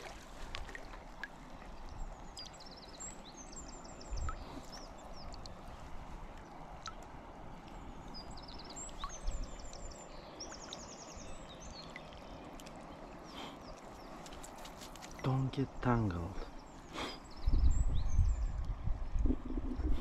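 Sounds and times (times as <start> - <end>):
stream rushing: 0.0 - 17.3
songbird chirping: 0.4 - 20.0.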